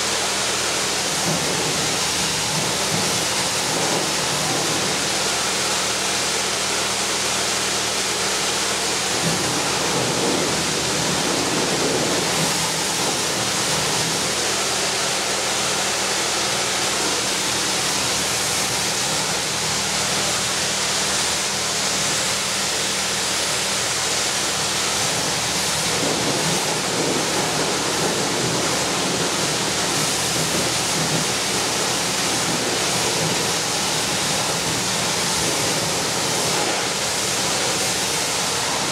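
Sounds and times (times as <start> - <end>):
pressure washer spraying metal: 0.0 - 38.9.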